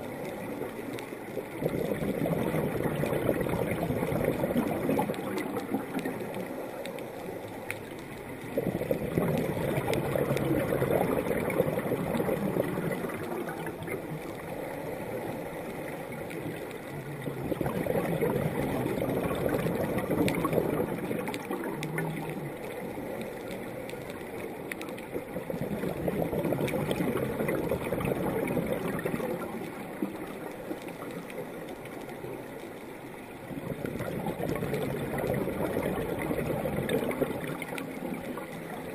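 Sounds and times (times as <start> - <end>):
underwater exhaled bubbles gurgling: 0.0 - 38.9.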